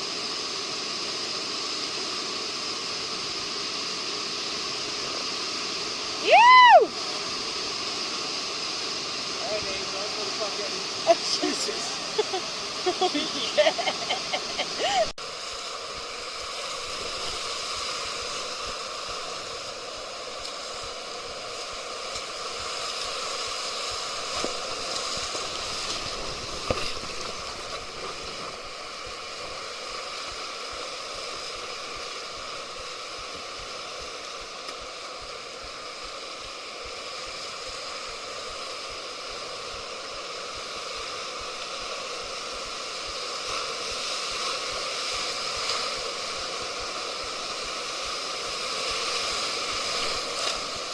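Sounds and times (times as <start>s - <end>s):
river rapids rushing: 2.4s - 50.9s.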